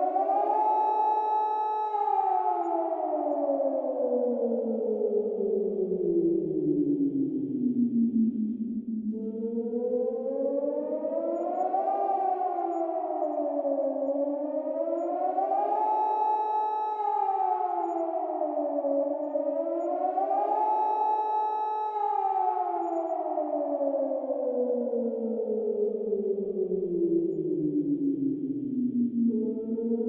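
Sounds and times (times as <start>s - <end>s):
warning siren wailing: 0.0s - 30.0s.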